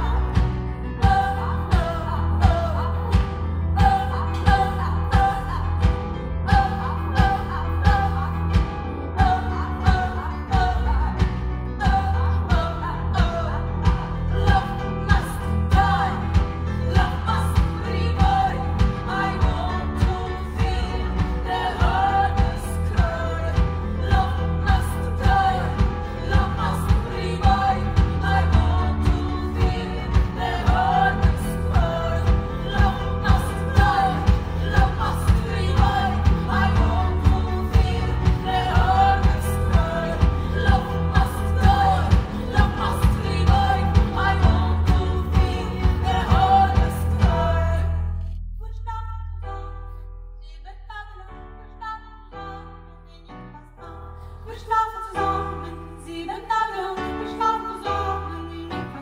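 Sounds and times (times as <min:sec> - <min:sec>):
steady drum beat: 0:00.0 - 0:47.8
keyboard: 0:00.0 - 0:48.6
double bass: 0:00.0 - 0:53.3
women singing: 0:00.0 - 0:59.0.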